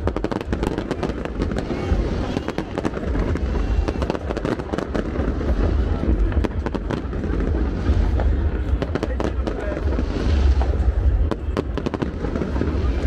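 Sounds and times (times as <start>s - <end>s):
fireworks cracking and banging: 0.0s - 13.0s
low rumble: 0.0s - 13.0s
people's voices: 0.0s - 13.0s.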